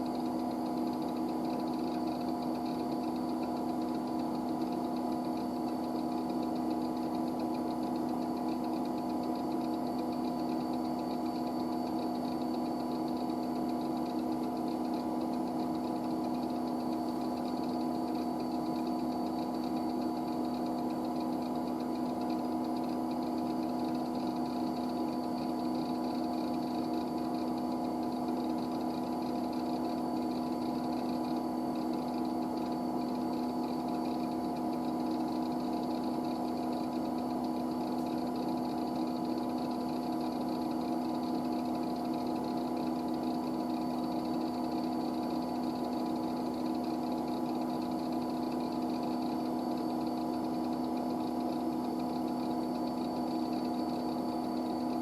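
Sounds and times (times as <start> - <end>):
computer mechanical hum: 0.0 - 55.0.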